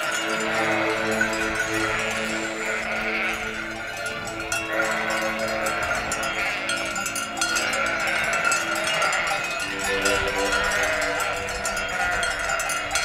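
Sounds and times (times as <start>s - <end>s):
goat bells clanking: 0.0s - 13.0s
goats bleating: 0.0s - 13.0s.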